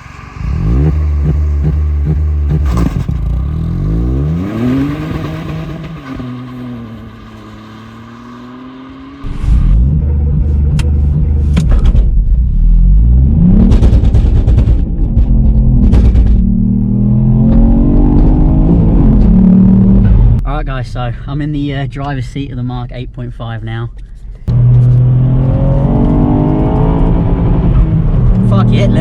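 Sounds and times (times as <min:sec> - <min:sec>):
car engine accelerating: 0:00.0 - 0:20.4, 0:24.4 - 0:29.0.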